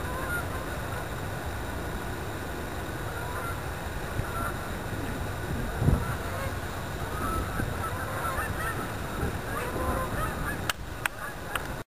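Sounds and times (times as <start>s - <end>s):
geese honking: 0.0s - 1.1s, 3.1s - 11.6s
steady low rumble: 0.0s - 11.8s.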